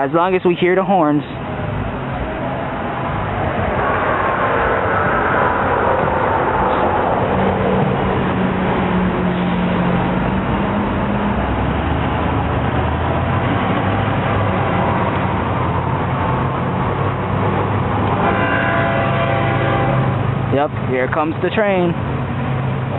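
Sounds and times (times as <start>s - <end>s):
road vehicles passing: 0.0s - 22.9s.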